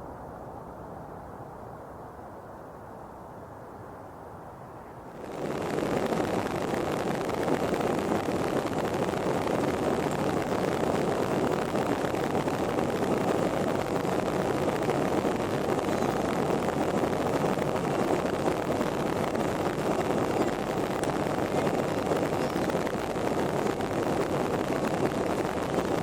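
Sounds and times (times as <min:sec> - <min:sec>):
airliner rushing hum: 0:05.1 - 0:26.0.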